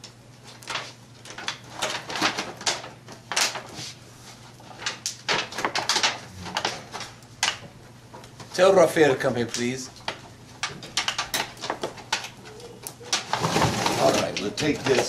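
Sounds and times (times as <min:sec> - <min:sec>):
aluminium foil crinkling: 0:00.4 - 0:15.0.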